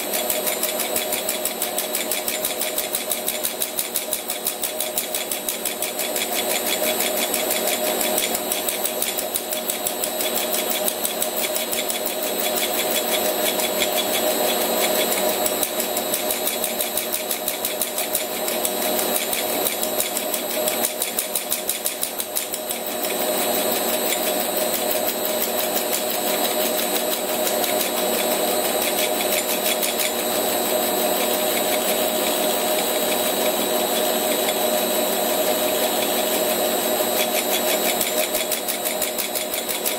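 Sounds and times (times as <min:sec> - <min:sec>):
lathe machine humming and pulsing: 0:00.0 - 0:39.9.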